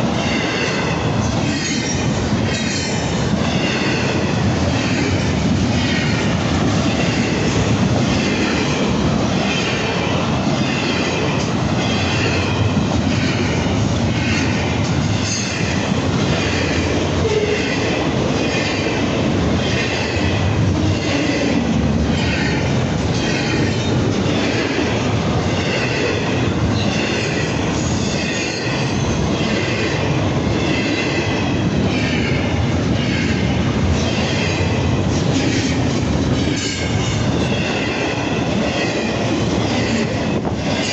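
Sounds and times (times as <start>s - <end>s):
train wagons rumbling on rails: 0.0s - 40.9s.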